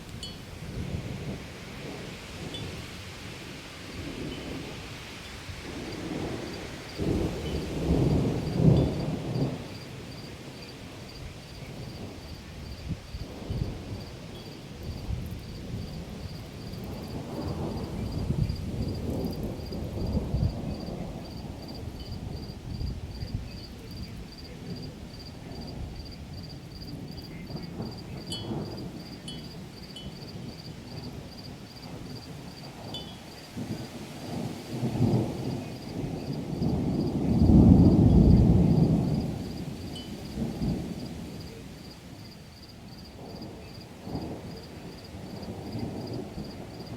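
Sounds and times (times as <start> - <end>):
steady rain: 0.0 - 46.9
thunder rumbling: 0.0 - 46.9.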